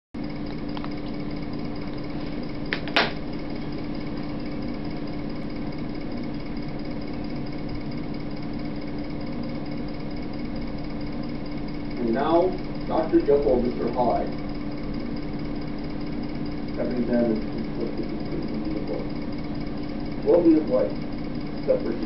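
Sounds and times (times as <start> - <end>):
constant hum tone: 0.2 - 22.0.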